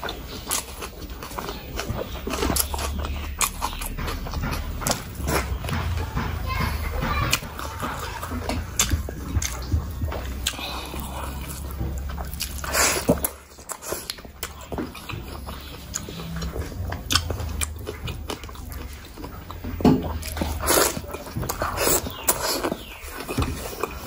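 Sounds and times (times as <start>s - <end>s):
chewing crunchy leafy greens: 0.0s - 24.0s.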